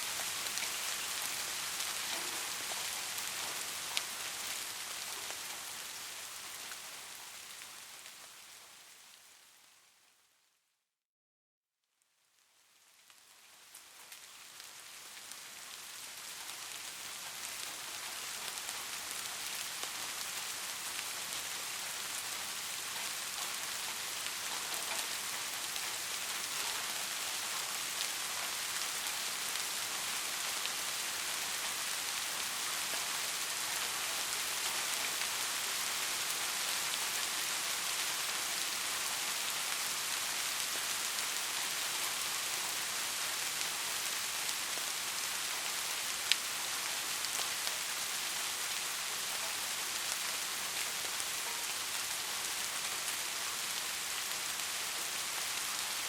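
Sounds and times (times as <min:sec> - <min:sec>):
steady rain falling: 0:00.0 - 0:10.4, 0:11.9 - 0:56.0.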